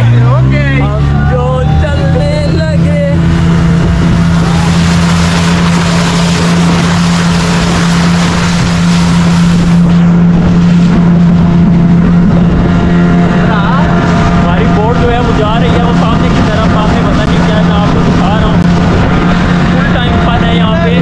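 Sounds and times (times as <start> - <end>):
motorboat engine running: 0.0 - 21.0
water rushing against hull: 0.0 - 21.0.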